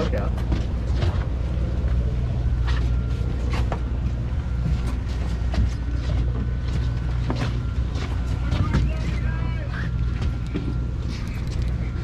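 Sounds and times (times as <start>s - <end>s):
boat machinery drone: 0.0s - 12.0s.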